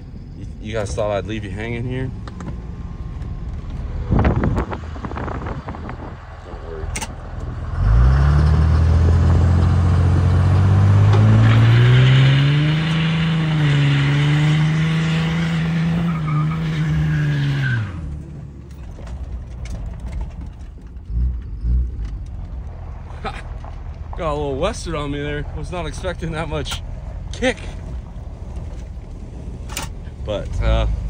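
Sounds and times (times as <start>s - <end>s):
diesel engine under full throttle: 0.0s - 31.0s.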